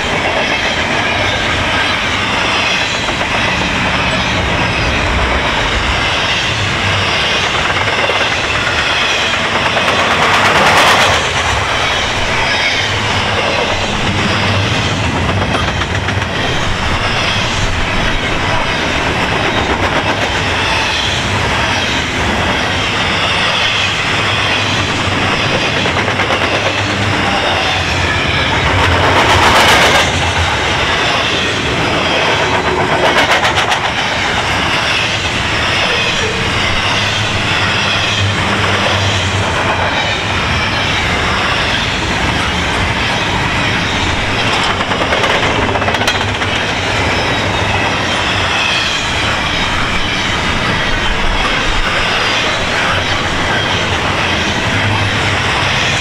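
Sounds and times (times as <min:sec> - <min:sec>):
freight train rumbling past: 0:00.0 - 0:56.0
wheels clattering over rail joints: 0:00.0 - 0:56.0.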